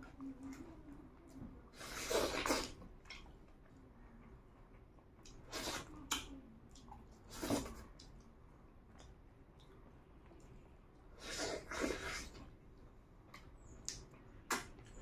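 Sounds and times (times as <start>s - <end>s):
wet chewing clicks: 0.1s - 15.0s.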